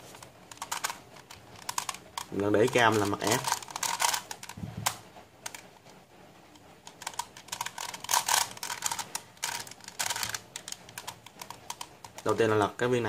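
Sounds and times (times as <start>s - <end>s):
plastic puzzle layers clicking: 0.1s - 5.6s, 6.8s - 12.4s.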